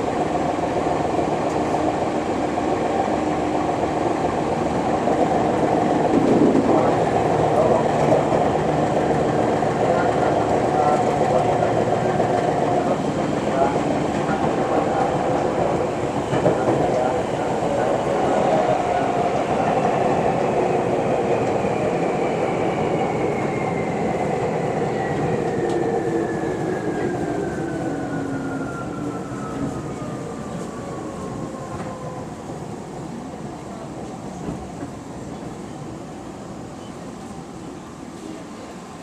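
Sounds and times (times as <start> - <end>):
train rolling noise: 0.0 - 39.0.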